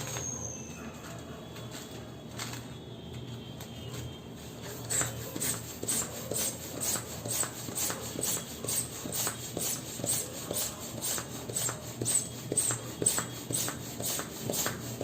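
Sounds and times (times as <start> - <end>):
rubber balloons squeaking: 0.0 - 1.9, 4.6 - 15.0.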